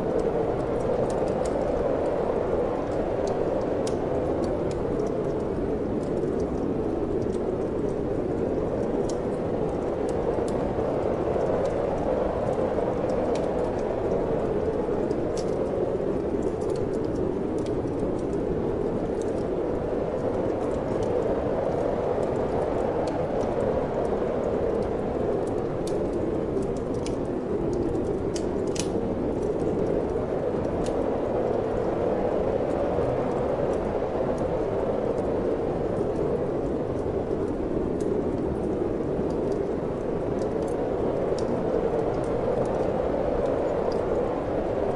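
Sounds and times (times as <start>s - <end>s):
steady wind: 0.0s - 44.9s
wood fire crackling: 0.0s - 44.9s.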